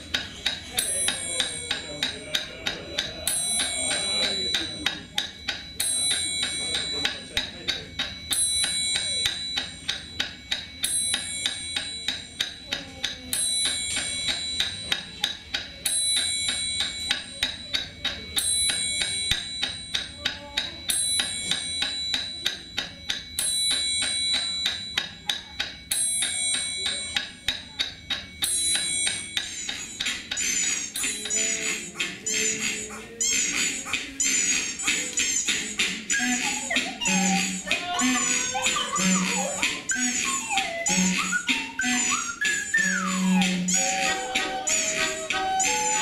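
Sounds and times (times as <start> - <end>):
fast ticking beat: 0.0 - 46.0
ringing bell-like tones: 0.0 - 46.0.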